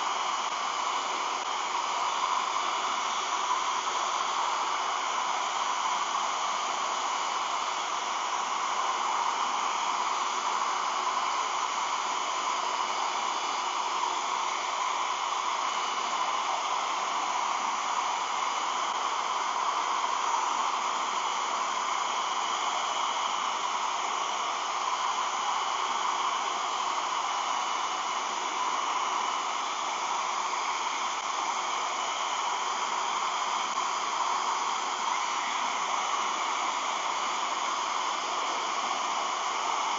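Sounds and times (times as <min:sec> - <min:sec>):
faint high whine: 0:00.0 - 0:39.9
hair dryer blowing air: 0:00.0 - 0:39.9.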